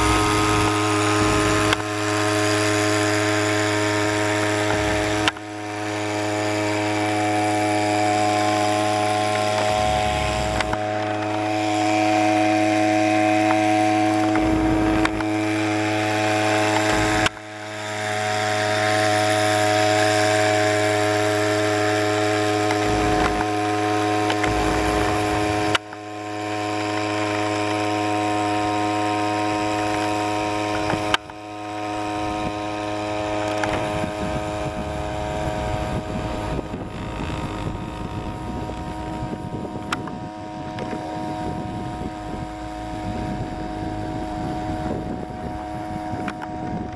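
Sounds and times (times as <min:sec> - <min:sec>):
small boat engine droning: 0:00.0 - 0:46.9.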